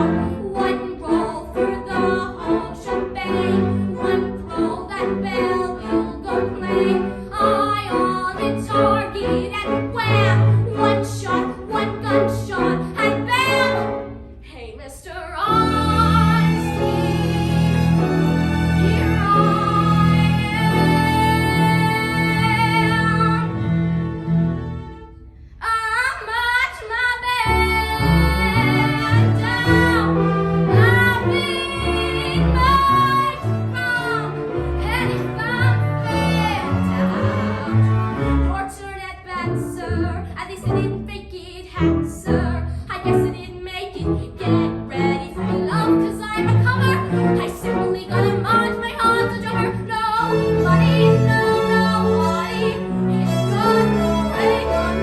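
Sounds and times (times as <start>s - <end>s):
string orchestra: 0.0s - 14.7s, 15.3s - 25.5s, 27.2s - 55.0s
woman singing: 0.0s - 17.0s, 18.8s - 23.5s, 25.6s - 36.8s, 38.5s - 55.0s.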